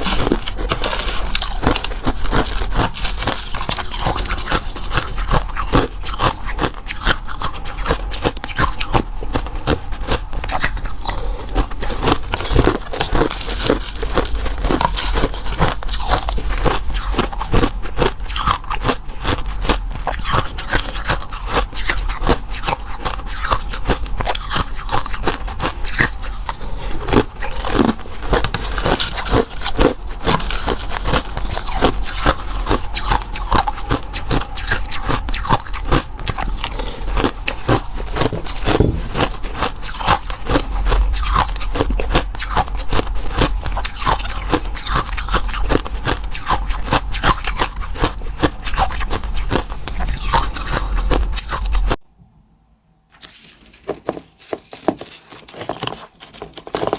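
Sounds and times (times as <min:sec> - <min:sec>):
person biting and chewing: 0:00.0 - 0:52.0.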